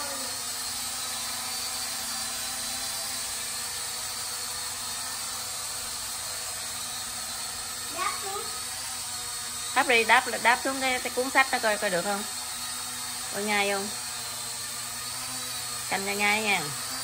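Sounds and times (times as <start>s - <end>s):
toy drone whirring buzz: 0.0s - 17.0s.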